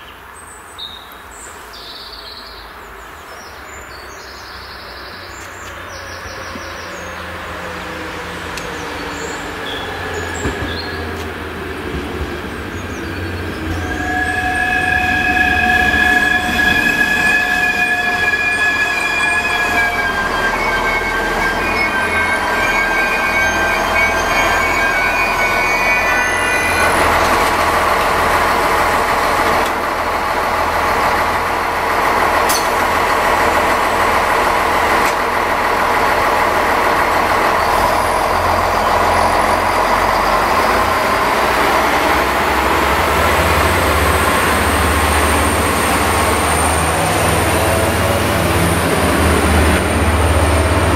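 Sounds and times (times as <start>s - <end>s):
train approaching with high whine: 0.0s - 50.9s
rush of passing train: 0.2s - 50.9s.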